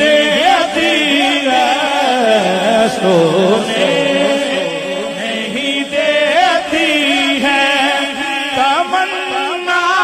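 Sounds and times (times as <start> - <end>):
person singing melismatically: 0.0 - 9.7.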